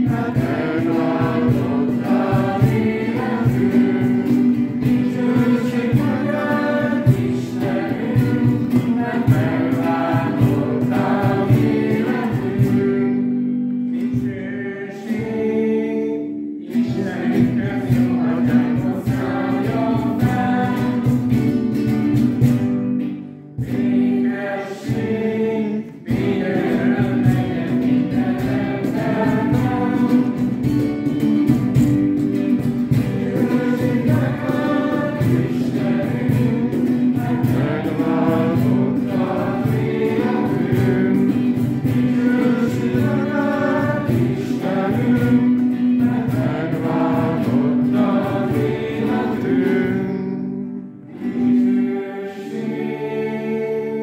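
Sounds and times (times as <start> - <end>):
congregation singing a hymn: 0.0 - 54.0
strummed acoustic guitar: 0.0 - 54.0.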